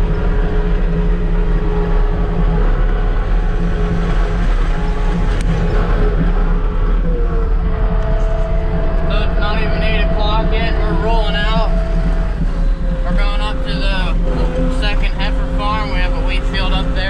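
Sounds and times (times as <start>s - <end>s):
faint rising whine: 0.0s - 17.0s
loader engine running: 0.0s - 17.0s.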